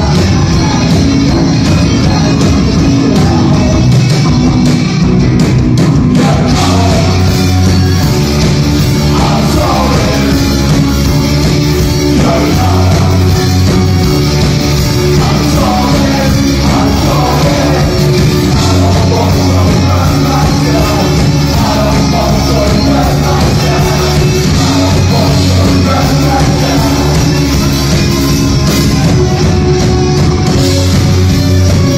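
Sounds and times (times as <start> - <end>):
man singing: 0.0 - 4.8, 6.0 - 8.2, 8.8 - 28.2
live rock band playing: 0.0 - 31.9.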